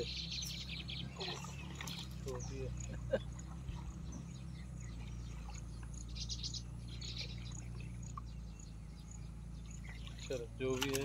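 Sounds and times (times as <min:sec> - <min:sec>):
low rumble: 0:00.0 - 0:10.6
bird trills: 0:00.0 - 0:10.9
birds chirping: 0:00.0 - 0:11.0.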